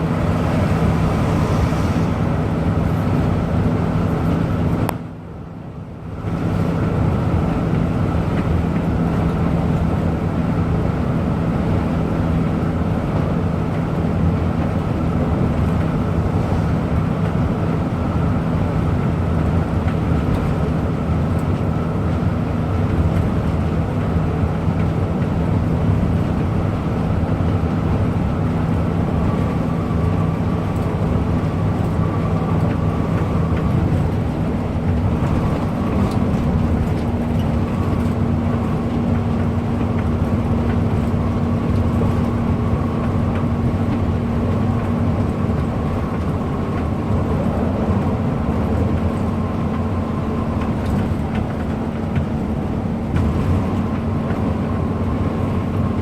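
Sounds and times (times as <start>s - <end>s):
bus engine running: 0.0s - 56.0s
road and tyre noise: 0.0s - 56.0s.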